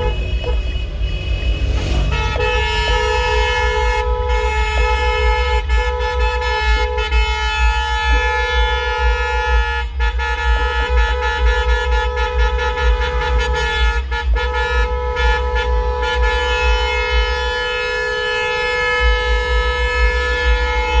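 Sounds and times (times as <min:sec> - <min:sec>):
car horns honking: 0:00.0 - 0:21.0.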